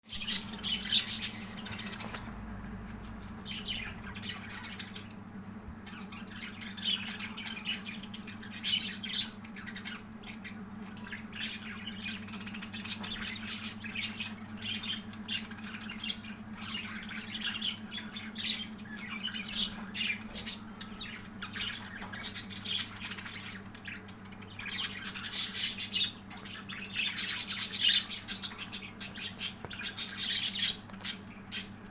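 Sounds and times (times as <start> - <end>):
budgerigars chirping and squawking: 0.1 - 31.9.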